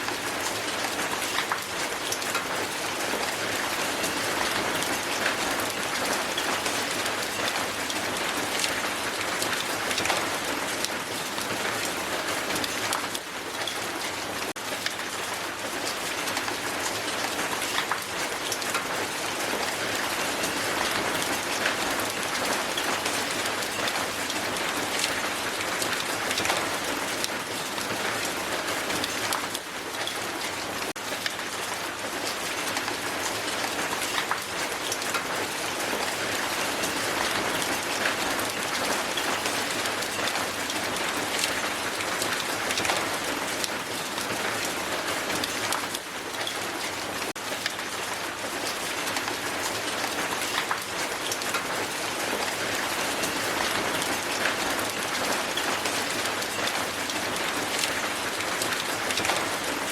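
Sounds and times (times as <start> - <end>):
hail on hard surface: 0.0 - 59.9.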